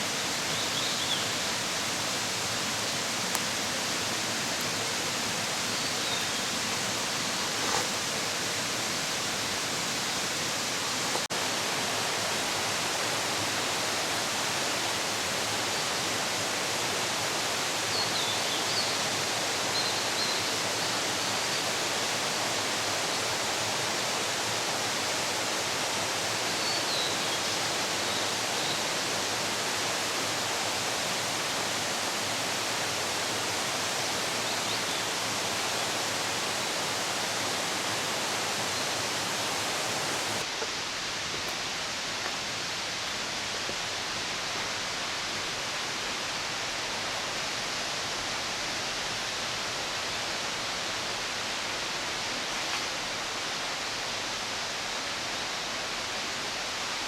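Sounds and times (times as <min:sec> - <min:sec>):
running water: 0:00.0 - 0:54.8.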